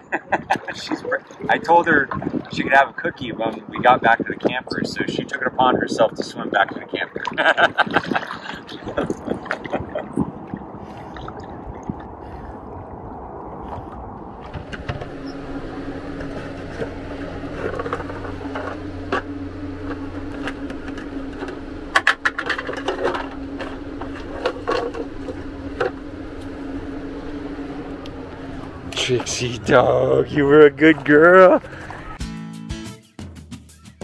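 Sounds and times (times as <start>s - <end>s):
lake water: 0.0s - 32.2s
steady low hum: 0.0s - 32.2s
wind noise: 0.0s - 32.2s.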